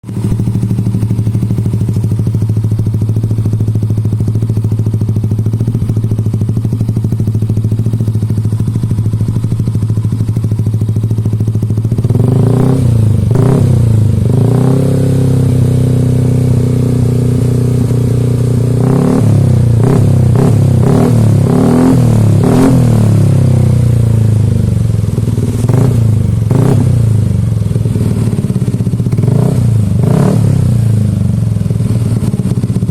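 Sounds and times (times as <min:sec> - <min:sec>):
scooter engine idling and revving: 0:00.0 - 0:32.9.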